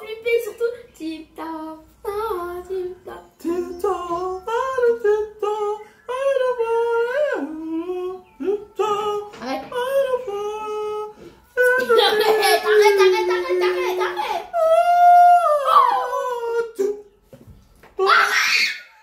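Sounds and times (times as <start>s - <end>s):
high voice singing slow tune: 0.0s - 17.2s.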